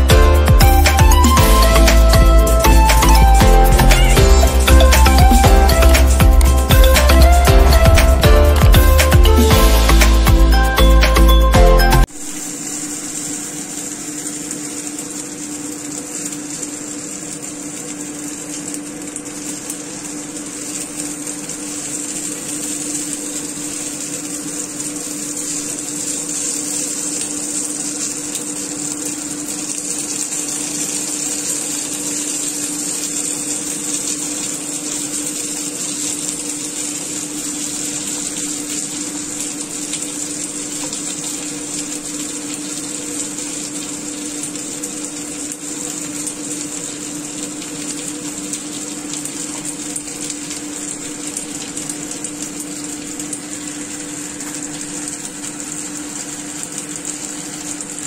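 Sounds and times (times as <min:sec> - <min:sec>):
dumplings sizzling in oil: 0:00.0 - 0:11.0, 0:12.0 - 0:58.0.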